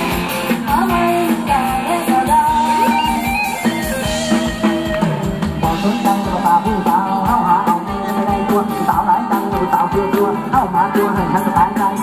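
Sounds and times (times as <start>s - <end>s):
drum kit beat: 0.0s - 12.0s
electric guitar: 0.0s - 12.0s
person singing: 0.0s - 12.0s.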